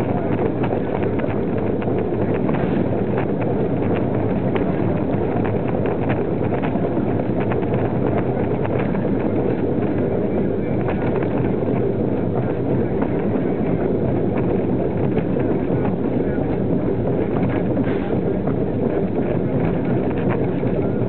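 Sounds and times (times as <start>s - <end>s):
train rumbling on rails: 0.0s - 21.0s
wheels clicking on track: 0.0s - 21.0s
wind on microphone: 0.0s - 21.0s.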